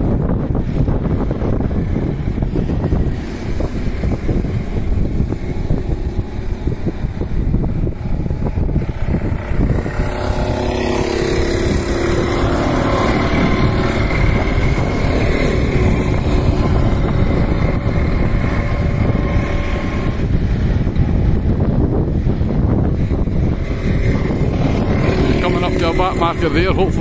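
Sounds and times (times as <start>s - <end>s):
kart engines droning past: 0.0s - 27.0s
wind rumble on microphone: 0.0s - 27.0s.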